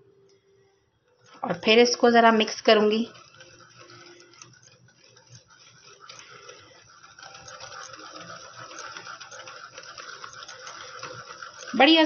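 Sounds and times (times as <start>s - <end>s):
wire whisk beating in a bowl: 1.1s - 12.0s.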